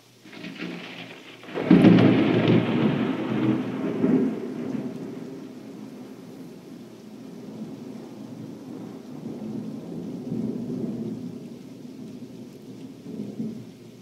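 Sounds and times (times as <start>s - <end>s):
steady rain: 0.0s - 14.0s
thunder rumbling: 0.0s - 14.0s.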